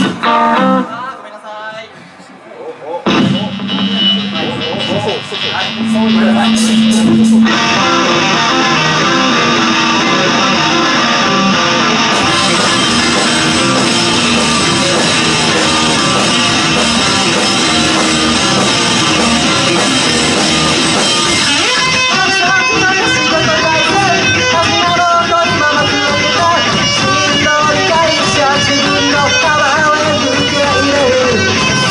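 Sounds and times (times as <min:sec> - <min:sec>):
bass guitar: 0:00.0 - 0:01.0, 0:03.0 - 0:31.9
distorted electric guitars: 0:00.0 - 0:01.4, 0:02.9 - 0:31.9
drums: 0:00.0 - 0:31.9.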